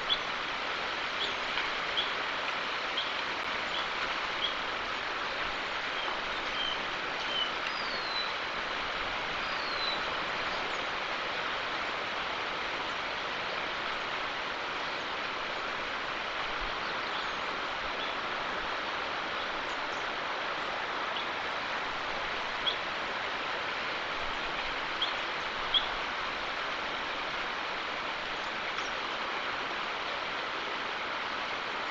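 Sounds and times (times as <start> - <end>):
outdoor background hiss: 0.0 - 31.9.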